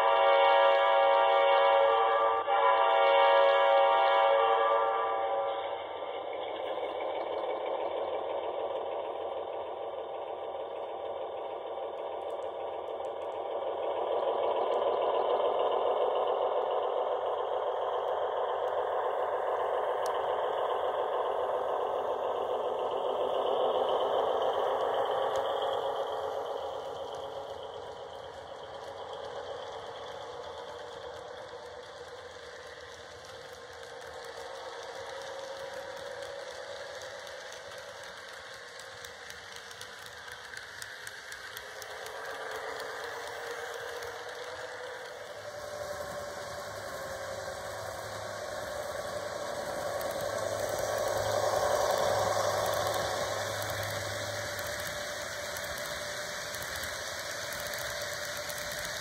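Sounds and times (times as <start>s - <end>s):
metal wheels rattling on track: 5.0s - 59.0s.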